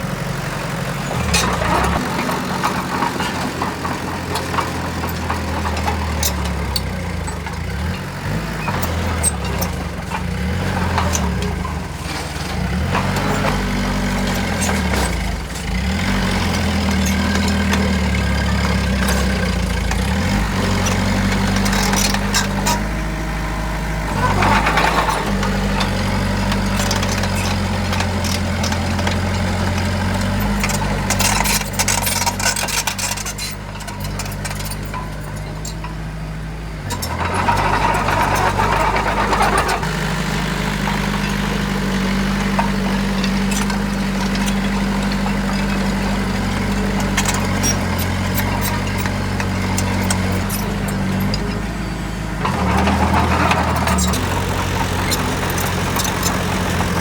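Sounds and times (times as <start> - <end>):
heavy diesel engine running: 0.0 - 57.0
clanks and rattles: 0.1 - 57.0.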